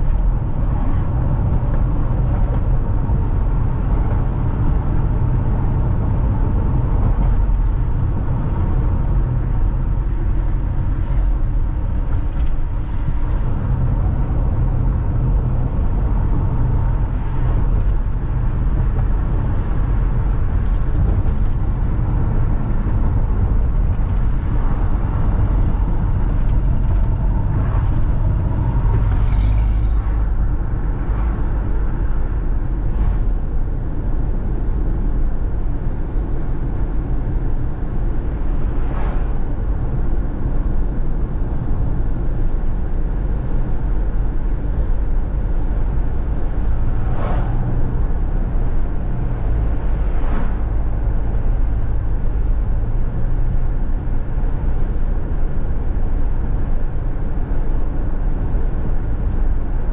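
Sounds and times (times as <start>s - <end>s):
car cabin road noise: 0.0s - 59.9s
passing traffic whooshes: 0.0s - 59.9s.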